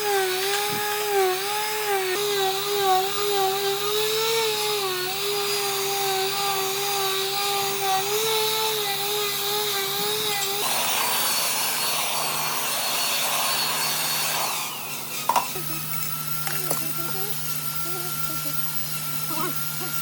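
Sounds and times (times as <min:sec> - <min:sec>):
power tool cutting wood: 0:00.0 - 0:20.0
power tool motor whining: 0:00.0 - 0:20.0.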